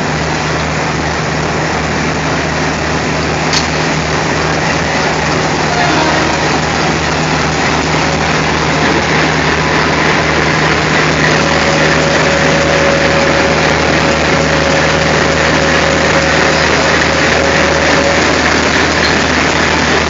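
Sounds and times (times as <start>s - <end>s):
diesel locomotive engine idling: 0.0s - 20.0s
faint steady whine: 2.2s - 20.0s.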